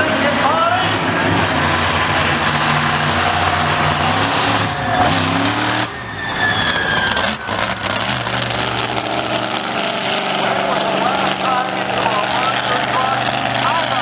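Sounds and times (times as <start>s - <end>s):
engine revving: 0.0s - 14.0s
vehicle engines running: 0.0s - 14.0s.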